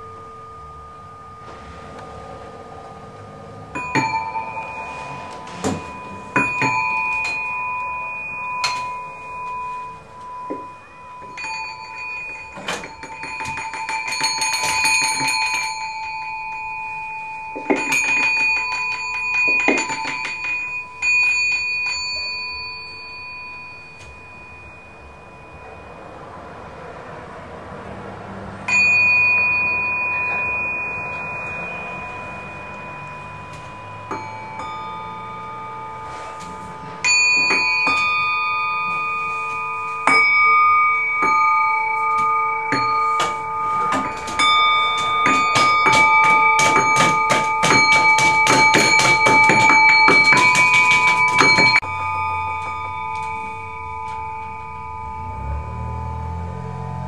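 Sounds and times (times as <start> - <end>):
small metal bells ringing: 0.0 - 57.0.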